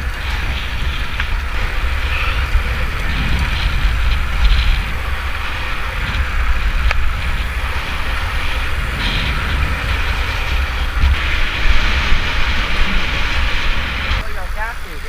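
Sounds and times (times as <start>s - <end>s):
rushing road noise: 0.0s - 15.0s
wind buffeting microphone: 0.0s - 15.0s.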